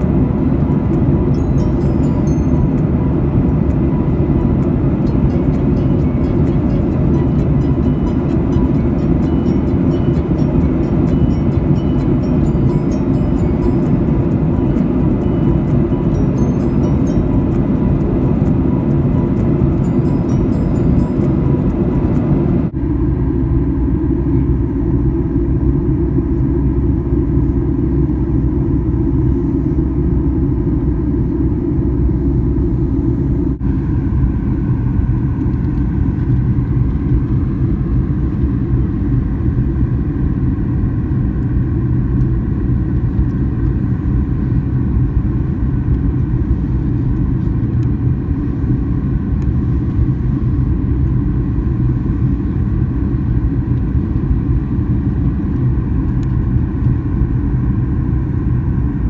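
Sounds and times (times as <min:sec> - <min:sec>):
faint steady whine: 0:00.0 - 0:59.0
jet engine low rumble: 0:00.0 - 0:59.0.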